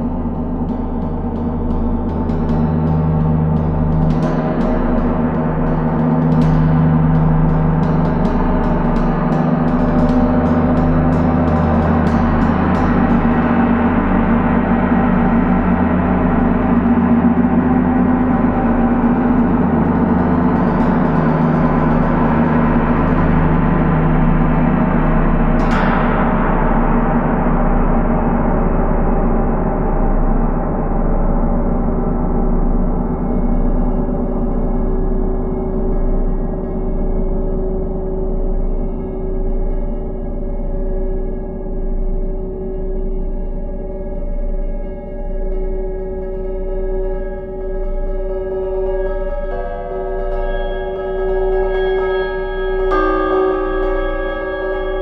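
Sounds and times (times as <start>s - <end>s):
gong strikes ringing: 0.0s - 55.0s.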